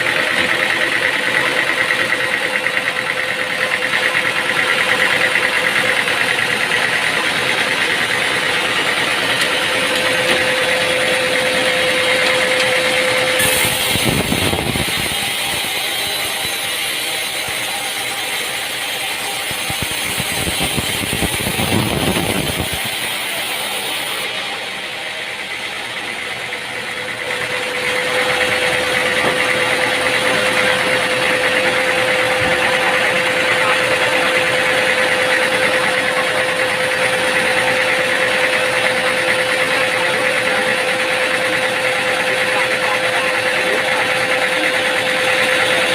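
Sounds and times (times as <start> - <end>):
loud steady whine: 0.0 - 45.9
machinery engine-like drone: 0.0 - 45.9.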